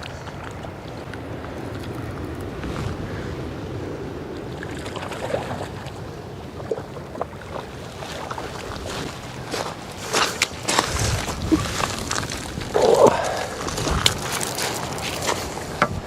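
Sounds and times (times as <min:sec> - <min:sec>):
water lapping: 0:00.0 - 0:16.0
wind buffeting microphone: 0:00.0 - 0:16.0.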